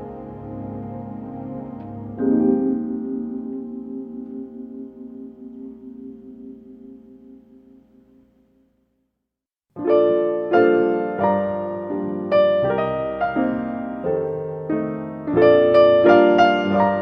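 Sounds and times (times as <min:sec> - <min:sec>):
slow solo piano chords: 0:00.0 - 0:07.6, 0:09.8 - 0:17.0.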